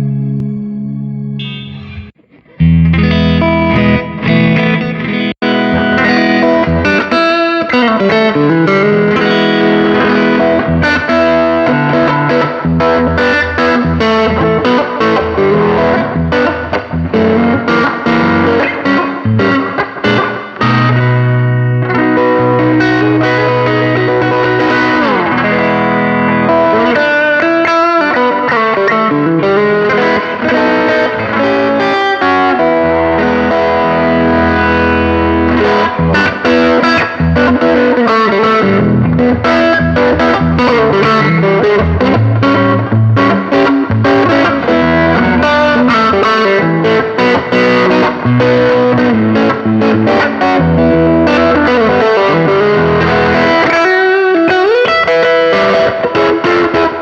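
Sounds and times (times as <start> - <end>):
distorted electric guitar lead: 0.0 - 57.0.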